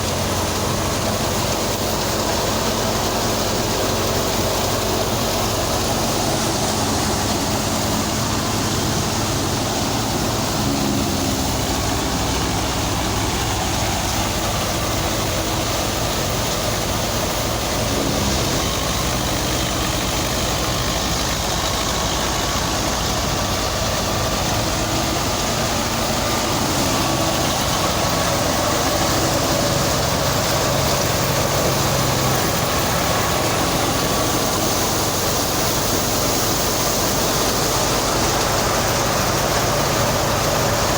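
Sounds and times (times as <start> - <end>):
constant rushing noise: 0.0 - 40.9
machinery engine running: 0.0 - 40.9.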